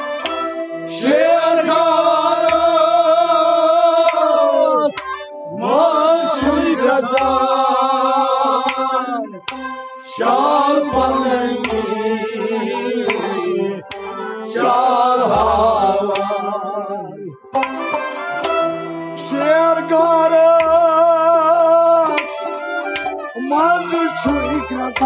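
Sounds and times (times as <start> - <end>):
person singing devotional song: 0.8 - 18.4, 19.0 - 25.0.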